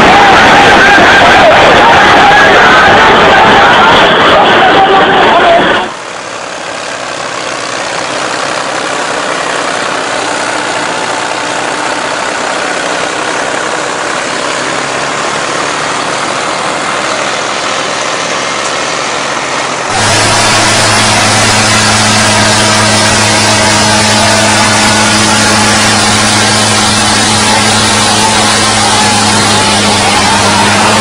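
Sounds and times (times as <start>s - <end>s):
tractor diesel engines straining: 0.0s - 31.0s.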